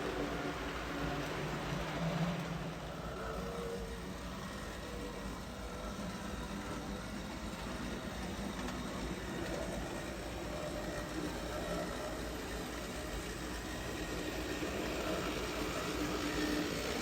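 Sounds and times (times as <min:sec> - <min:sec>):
model train motor whirring: 0:00.0 - 0:17.0
wheels rolling on rails: 0:00.0 - 0:17.0.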